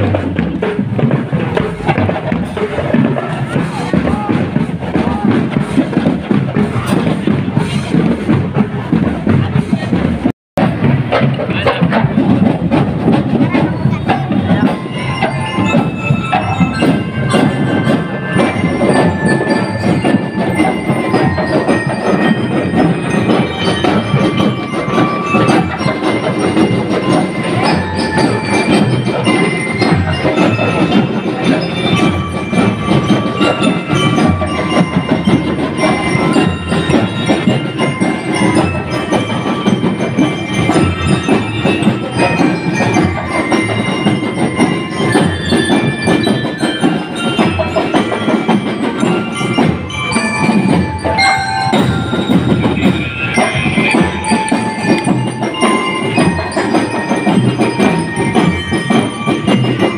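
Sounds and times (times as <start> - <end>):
bell lyres ringing melody: 0.0 - 59.9
marching drums: 0.0 - 59.9.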